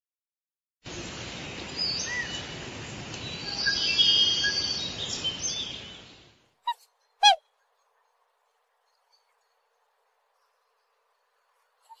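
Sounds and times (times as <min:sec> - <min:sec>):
outdoor background noise: 0:00.8 - 0:12.0
small birds chirping: 0:01.0 - 0:12.0.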